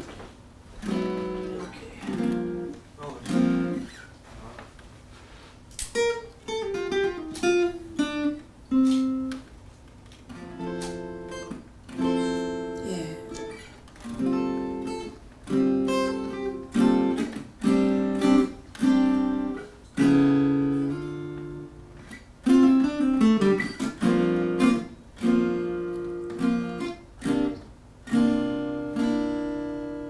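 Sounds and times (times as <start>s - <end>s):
acoustic guitar chords: 0.0s - 4.0s, 5.9s - 9.6s, 10.2s - 30.0s.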